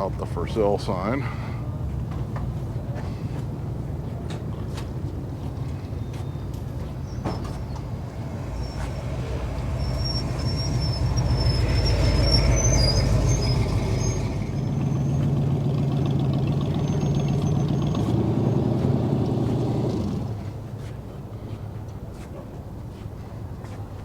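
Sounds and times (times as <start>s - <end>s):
vehicle engine running: 1.8s - 22.0s.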